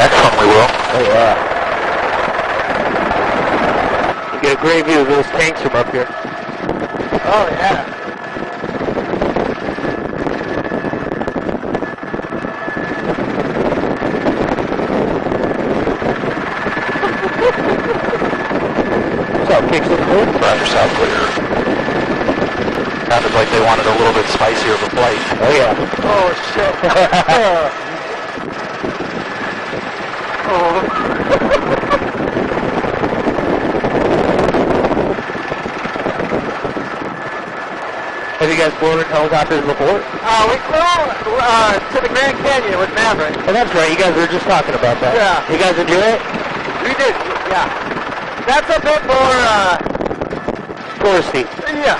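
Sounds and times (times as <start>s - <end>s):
helicopter rotor and engine: 0.0s - 51.9s
high whine: 0.0s - 51.9s
wind buffeting microphone: 0.0s - 51.9s.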